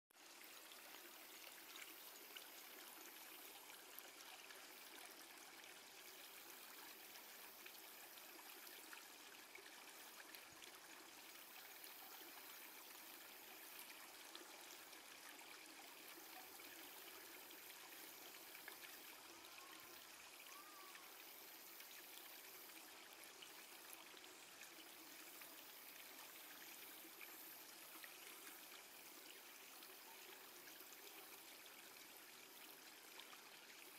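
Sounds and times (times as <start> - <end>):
stream running water: 0.2 - 33.9.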